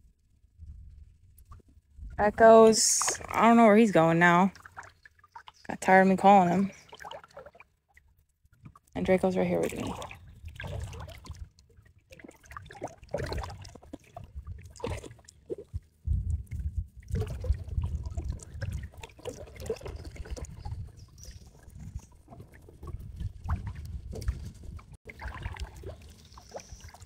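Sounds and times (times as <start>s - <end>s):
water splashing from wading: 2.2s - 15.8s, 16.5s - 27.0s.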